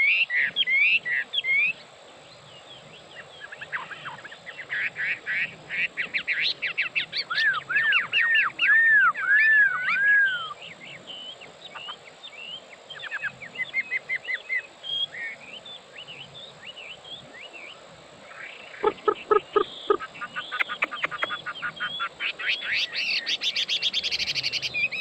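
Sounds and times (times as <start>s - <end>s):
bird singing: 0.0s - 25.0s.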